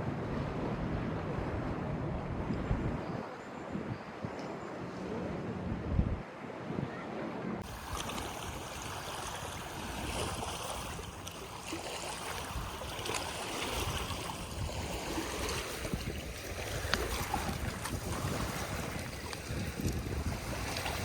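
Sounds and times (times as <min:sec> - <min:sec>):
wind gusting over microphone: 0:00.0 - 0:11.6, 0:12.2 - 0:21.0.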